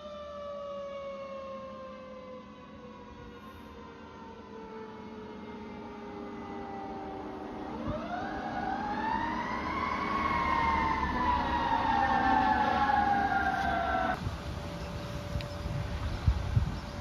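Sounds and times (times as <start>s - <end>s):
fire engine siren wailing: 0.0s - 17.0s
traffic rumble: 1.7s - 17.0s.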